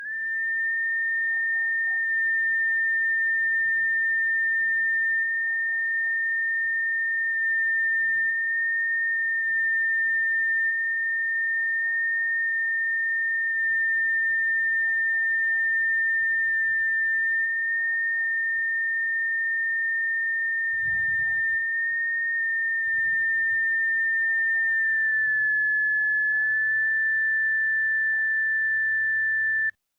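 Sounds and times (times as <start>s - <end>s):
continuous high-pitched beep tone: 0.0s - 29.8s.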